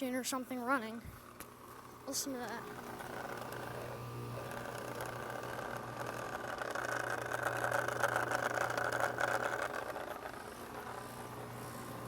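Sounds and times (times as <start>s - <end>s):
hvac unit humming: 0.0s - 12.0s.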